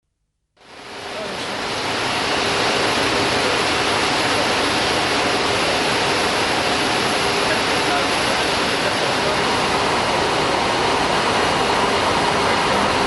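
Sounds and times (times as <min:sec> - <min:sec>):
cockpit rushing hiss: 0:00.6 - 0:13.0.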